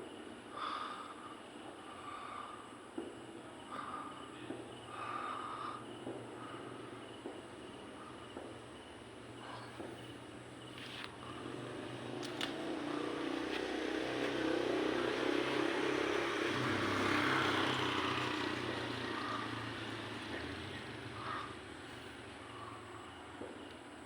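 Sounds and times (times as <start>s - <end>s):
passing vehicle engine: 3.8s - 23.7s.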